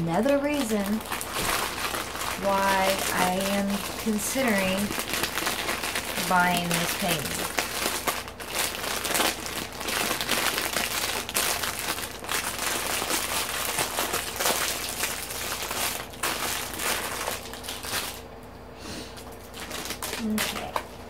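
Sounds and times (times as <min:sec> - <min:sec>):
plastic packaging crinkling: 0:00.0 - 0:18.3, 0:19.1 - 0:21.0.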